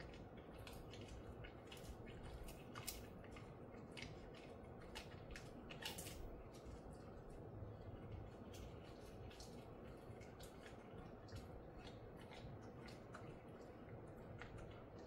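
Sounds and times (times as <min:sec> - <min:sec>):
dog chewing with crunching clicks: 0:00.0 - 0:15.0.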